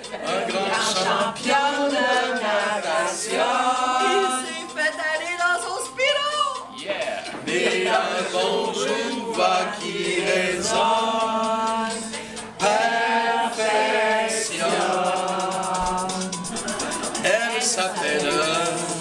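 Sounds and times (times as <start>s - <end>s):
group singing in unison: 0.0s - 5.0s, 6.8s - 19.0s.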